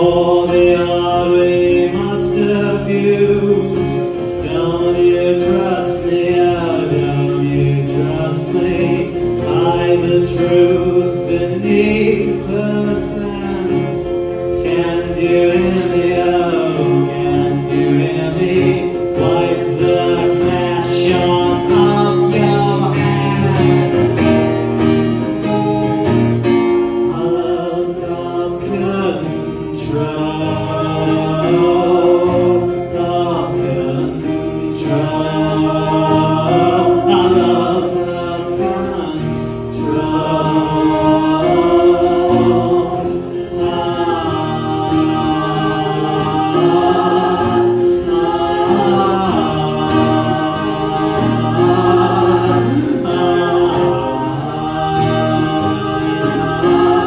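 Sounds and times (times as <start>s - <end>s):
woman and man singing: 0.0s - 24.0s, 27.0s - 57.0s
acoustic guitar: 0.0s - 57.0s.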